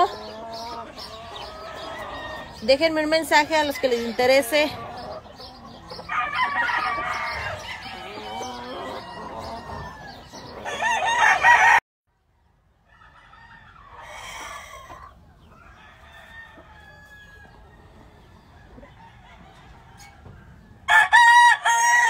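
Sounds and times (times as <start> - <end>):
chickens clucking: 0.0 - 11.8, 12.5 - 21.9
roosters crowing: 0.0 - 11.8, 12.8 - 22.0.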